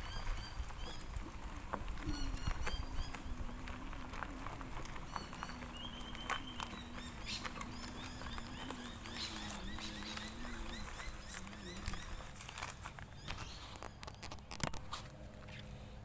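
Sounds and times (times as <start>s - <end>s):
low wavering hum: 0.0s - 13.0s
bike tyres crackling over gravel: 0.0s - 16.0s
birds chirping: 0.0s - 16.0s.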